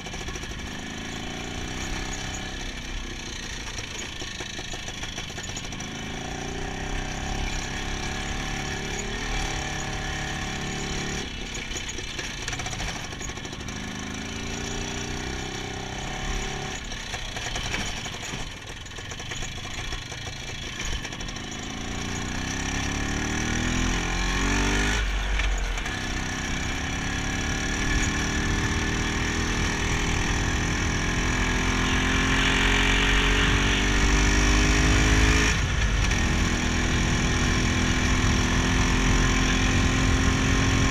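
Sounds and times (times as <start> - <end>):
two-stroke motorcycle engine: 0.0 - 40.9.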